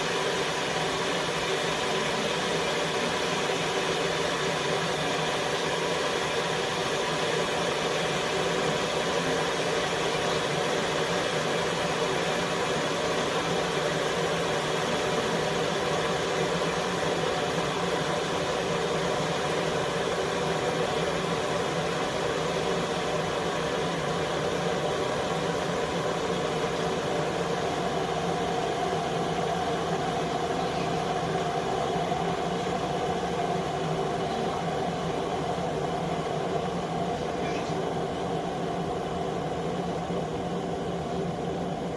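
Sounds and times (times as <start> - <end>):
electric kettle heating water: 0.0 - 41.9.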